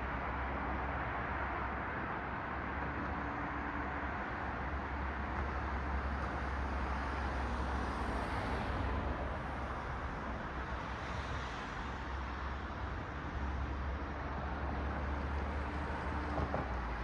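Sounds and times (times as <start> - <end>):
cars passing on road: 0.0 - 17.0.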